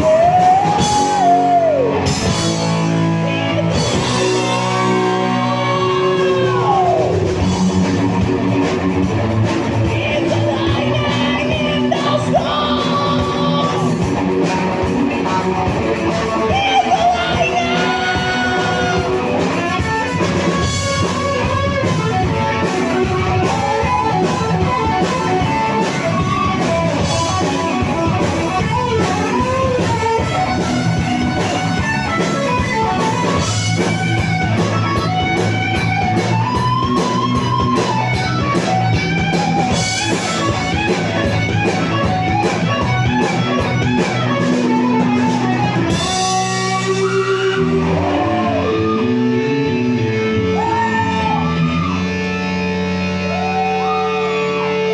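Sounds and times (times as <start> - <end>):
rock band playing live: 0.0 - 54.9.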